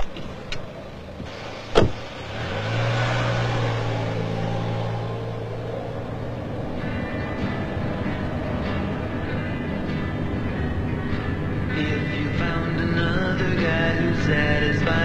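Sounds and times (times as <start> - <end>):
car engine starting and running: 0.0 - 15.0.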